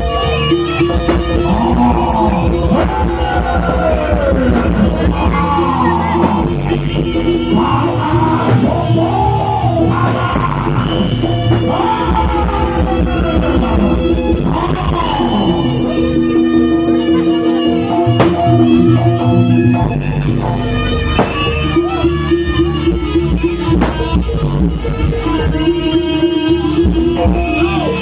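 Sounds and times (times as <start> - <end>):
live traditional music: 0.0 - 28.0.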